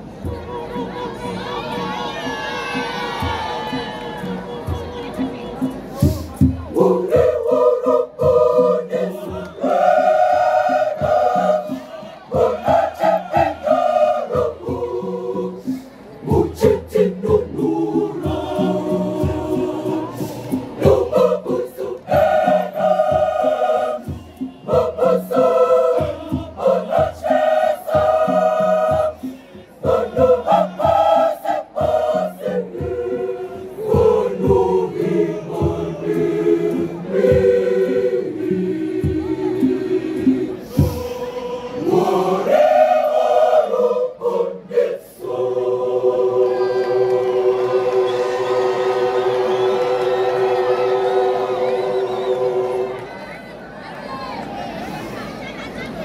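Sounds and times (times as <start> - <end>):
steady beat: 4.6 - 52.9
choir singing in harmony: 6.0 - 53.6.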